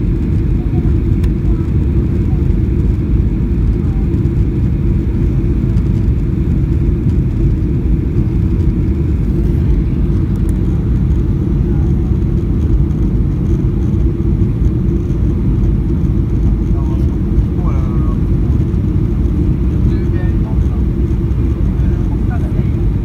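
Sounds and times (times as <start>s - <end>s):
airplane engines and airflow rumble: 0.0s - 23.0s.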